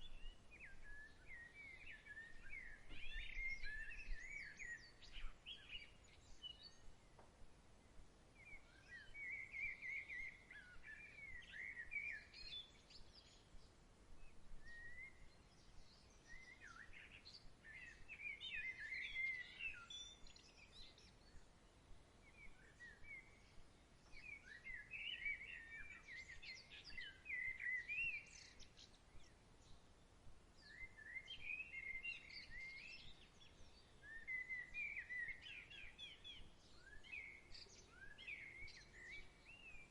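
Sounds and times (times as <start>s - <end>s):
songbirds warbling: 0.0s - 7.2s, 7.8s - 39.9s
soft background hiss: 0.0s - 39.9s.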